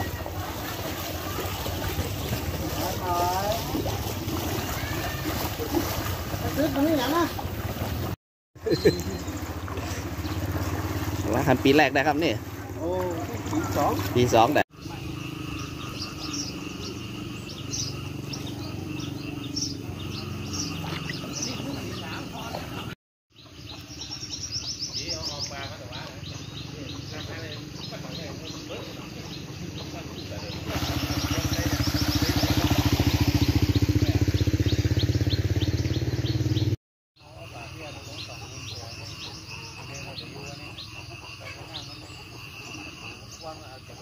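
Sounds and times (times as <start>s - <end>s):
small birds chirping: 8.6s - 44.0s.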